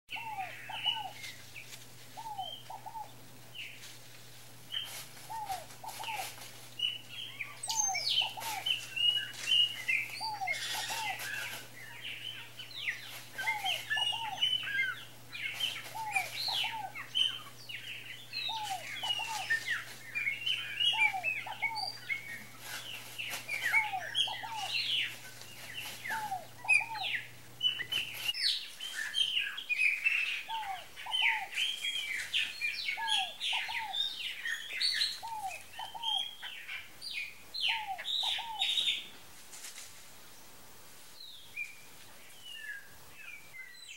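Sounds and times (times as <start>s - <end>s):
faint steady hum: 0.1s - 43.9s
small birds chirping: 0.1s - 43.9s.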